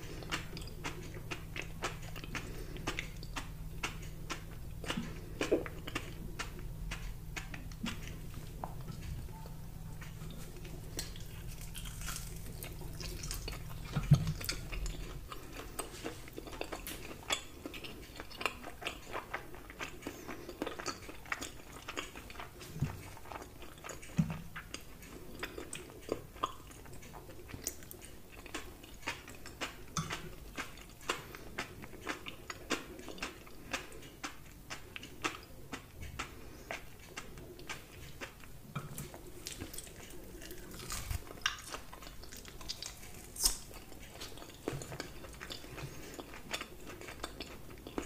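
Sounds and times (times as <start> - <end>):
chewing and biting meat: 0.0 - 9.3, 9.9 - 48.0.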